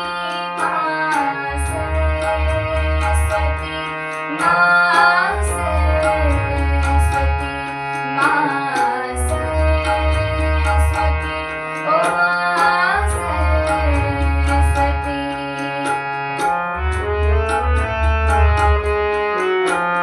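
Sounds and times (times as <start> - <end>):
held drone: 0.0 - 20.0
light percussion ticks: 0.0 - 20.0
ornamented melodic line: 0.0 - 20.0.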